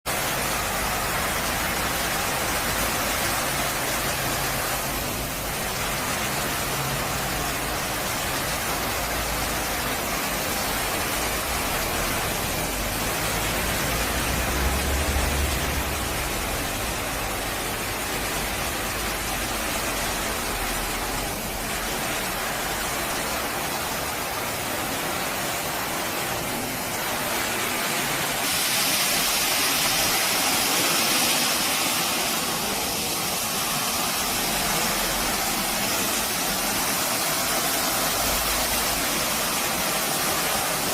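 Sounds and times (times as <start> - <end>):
floor cleaner hissing and humming: 0.0 - 40.9
bright loud hiss: 0.1 - 40.9.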